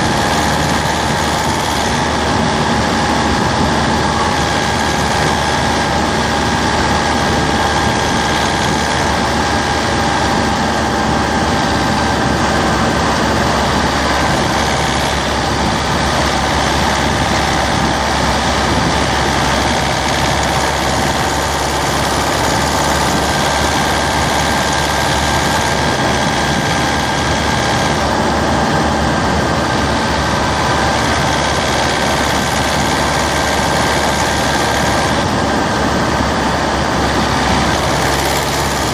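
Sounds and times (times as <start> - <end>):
diesel engine clatter: 0.0 - 38.9.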